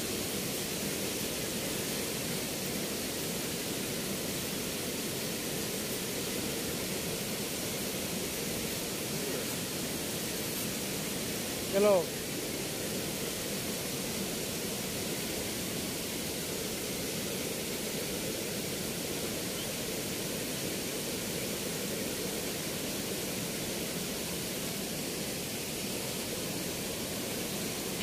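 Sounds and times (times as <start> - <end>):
water rushing through sluice gate: 0.0 - 28.0.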